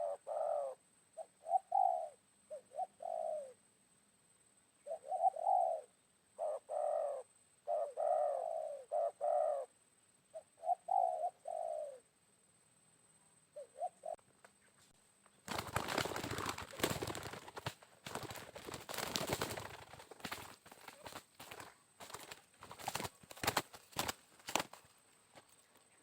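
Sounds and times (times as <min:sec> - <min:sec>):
dove cooing: 0:00.0 - 0:03.6, 0:04.8 - 0:09.7, 0:10.3 - 0:12.1, 0:13.5 - 0:14.2, 0:15.5 - 0:26.0.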